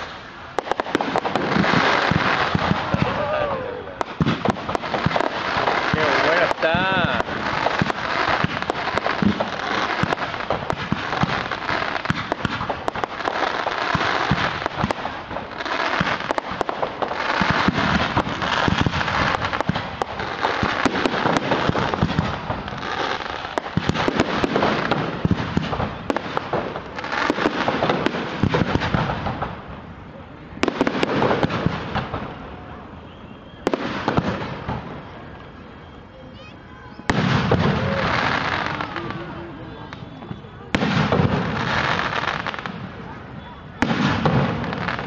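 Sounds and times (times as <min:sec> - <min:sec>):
fireworks bursting: 0:00.0 - 0:45.0
fireworks crackling: 0:00.0 - 0:45.0.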